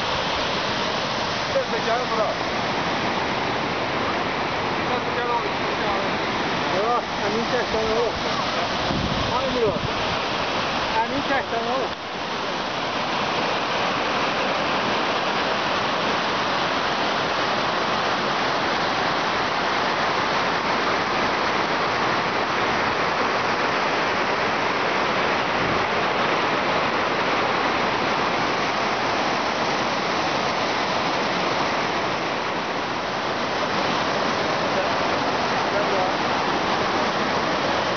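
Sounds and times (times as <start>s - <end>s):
waterfall rushing over rocks: 0.0s - 37.9s.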